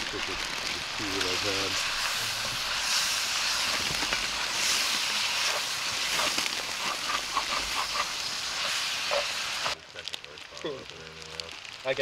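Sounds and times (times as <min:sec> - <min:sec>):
food sizzling in a pan: 0:00.0 - 0:12.0
small pops and crackles: 0:00.0 - 0:12.0.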